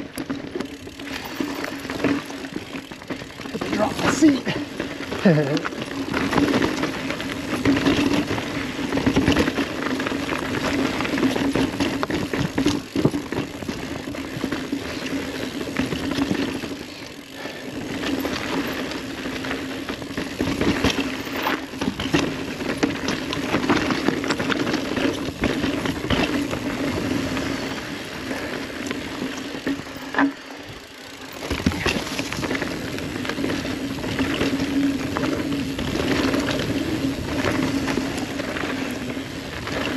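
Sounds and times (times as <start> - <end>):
bike rattling over rocks: 0.0 - 39.9
tyre and trail noise: 0.0 - 39.9.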